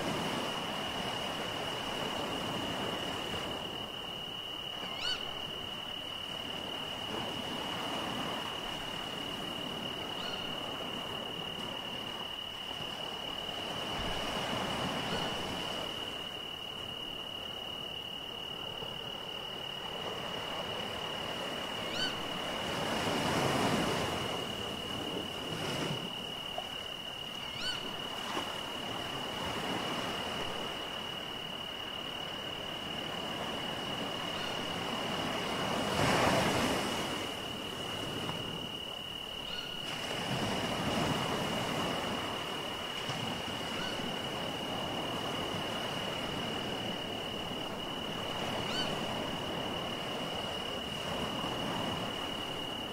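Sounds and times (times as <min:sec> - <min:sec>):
sea waves washing ashore: 0:00.0 - 0:52.9.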